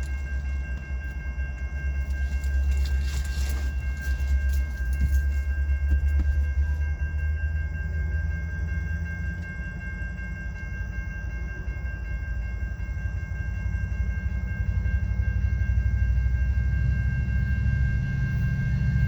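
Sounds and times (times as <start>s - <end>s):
crossing warning bell ringing: 0.0s - 19.0s
freight train rumbling past: 0.0s - 19.0s.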